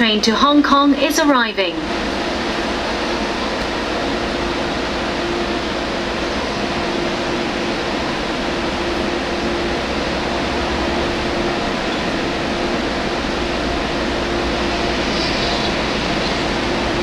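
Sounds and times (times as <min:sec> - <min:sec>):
train rushing rumble: 0:00.0 - 0:17.0.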